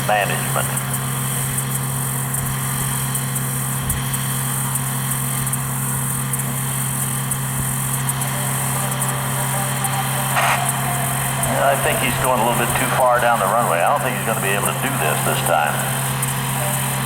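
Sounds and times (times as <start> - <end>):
engine running with low hum: 0.0 - 17.0
noisy hiss: 0.0 - 17.0.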